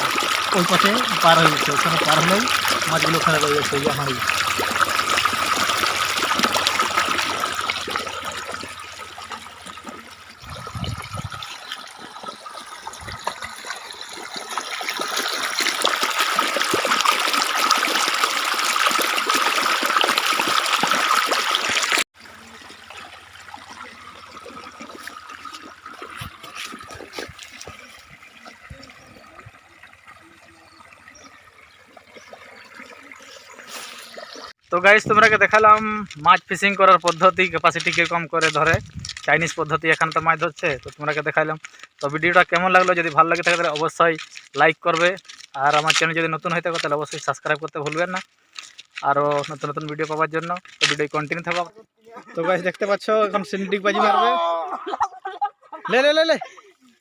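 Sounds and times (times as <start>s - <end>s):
water rushing out of a pipe: 0.0s - 51.6s.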